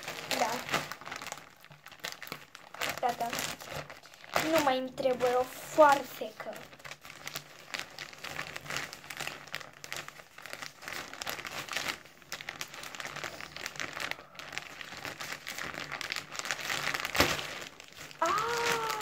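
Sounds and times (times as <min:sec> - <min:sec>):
plastic mailer bag crinkling: 0:00.0 - 0:19.0.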